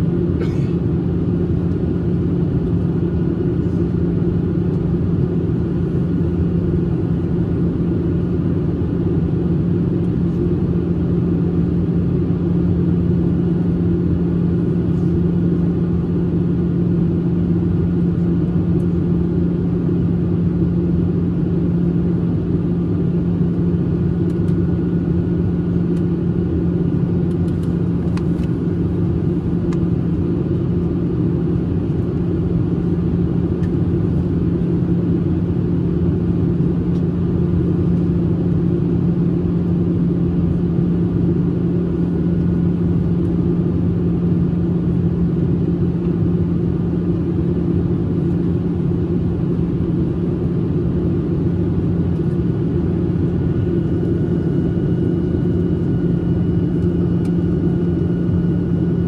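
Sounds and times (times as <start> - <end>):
jet engine and airflow rush: 0.0 - 59.0
steady low hum: 0.0 - 59.0.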